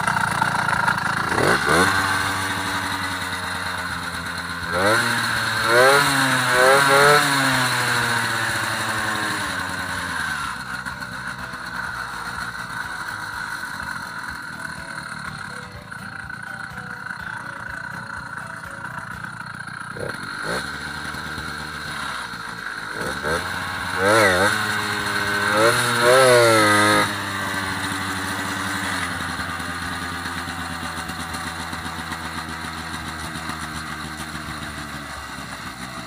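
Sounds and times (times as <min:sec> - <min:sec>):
small gasoline engine revving: 0:00.0 - 0:36.0.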